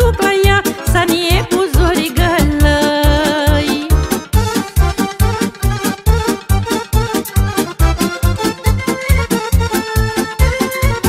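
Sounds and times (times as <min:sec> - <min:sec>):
accordion: 0:00.0 - 0:11.0
bass and drum beat: 0:00.0 - 0:11.0.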